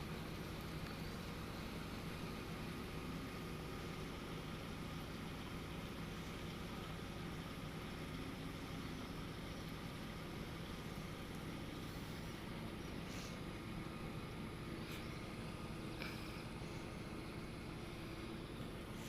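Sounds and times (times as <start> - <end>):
tugboat diesel engine drone: 0.0 - 19.0.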